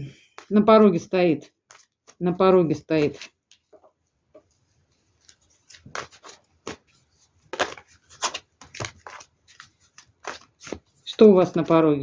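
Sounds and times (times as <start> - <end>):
cards slapping and rustling: 0.4 - 3.8, 5.1 - 11.8.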